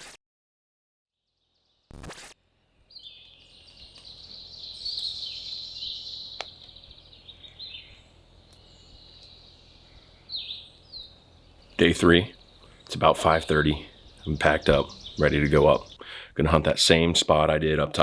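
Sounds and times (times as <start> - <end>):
songbirds singing: 1.3 - 18.0.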